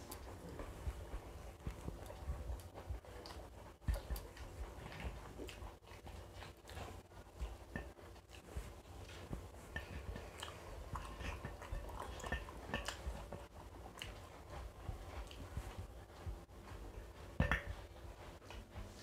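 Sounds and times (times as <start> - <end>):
people chewing and lip smacking: 0.0 - 19.0.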